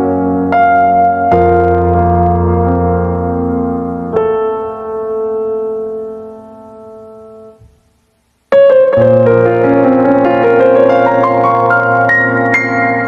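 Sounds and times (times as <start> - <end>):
piano music: 0.0 - 7.7, 8.5 - 13.0.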